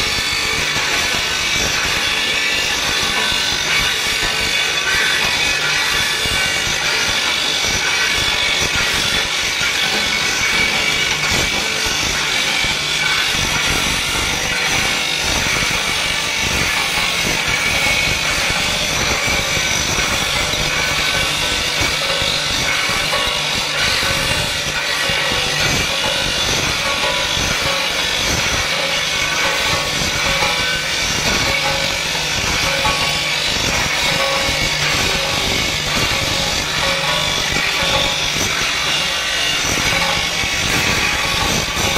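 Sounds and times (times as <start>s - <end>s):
grinding machine running: 0.0s - 41.9s.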